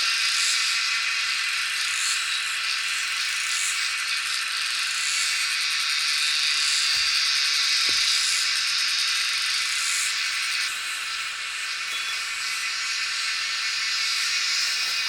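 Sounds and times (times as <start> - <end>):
insects buzzing chorus: 0.0 - 15.0.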